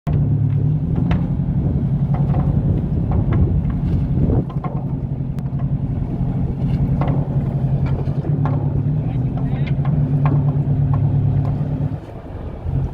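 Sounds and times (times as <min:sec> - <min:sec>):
boat engine humming: 0:00.1 - 0:12.9.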